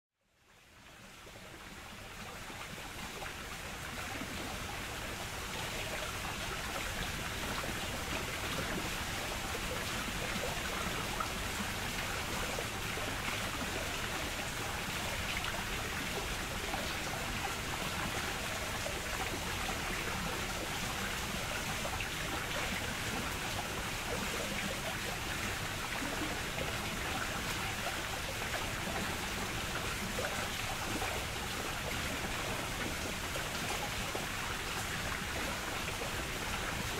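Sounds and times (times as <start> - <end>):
water rushing at water wheel: 0.6 - 36.9.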